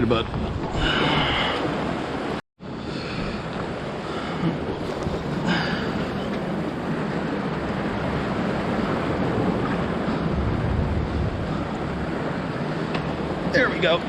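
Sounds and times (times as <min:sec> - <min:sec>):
ocean surf washing on beach: 0:00.0 - 0:14.0
wind buffeting microphone: 0:00.0 - 0:14.0.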